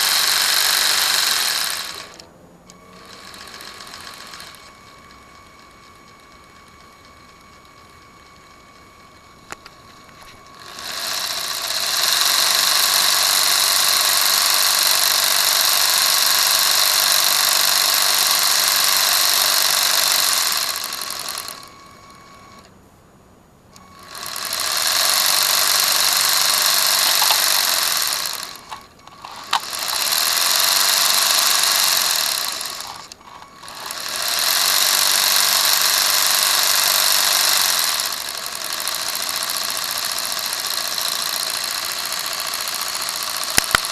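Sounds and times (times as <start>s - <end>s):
toy car electric motor whirring: 0.0s - 22.7s, 23.8s - 43.9s.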